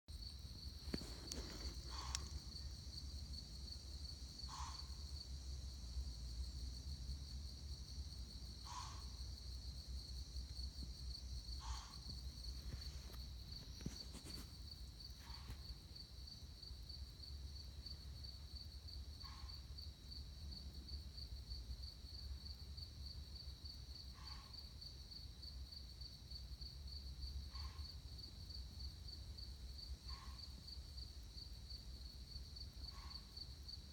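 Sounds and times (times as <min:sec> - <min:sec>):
night insects chorus: 0:00.1 - 0:33.9.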